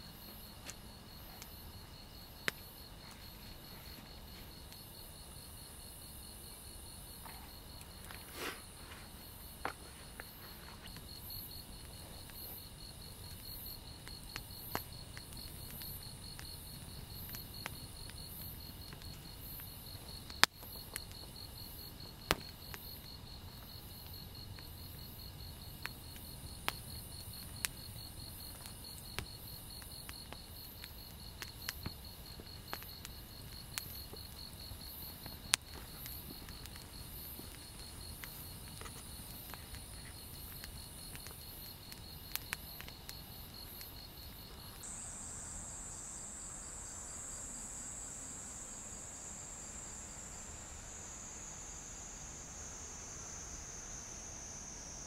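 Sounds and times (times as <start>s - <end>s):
insect chirp: 0.0s - 55.0s
insects trilling: 0.0s - 55.0s.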